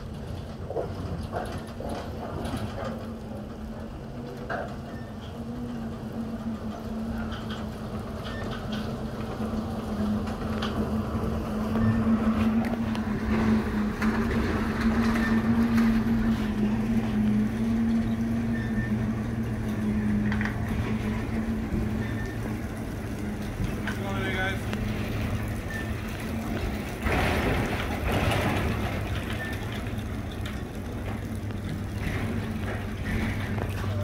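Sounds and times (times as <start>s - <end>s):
boat carriage on rails humming: 0.0s - 34.0s.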